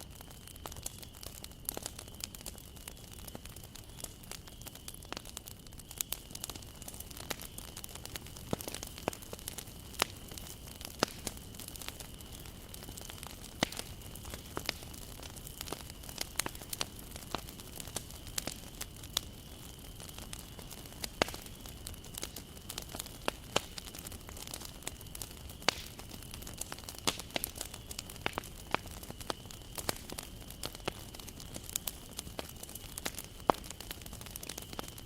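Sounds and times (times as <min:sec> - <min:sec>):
campfire crackling and popping: 0:00.0 - 0:35.0
fire hissing: 0:00.0 - 0:35.0.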